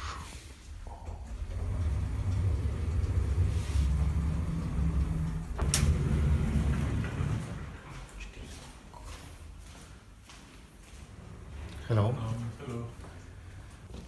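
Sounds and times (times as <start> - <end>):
elevator rumble and hum: 0.0 - 8.8, 10.9 - 14.0.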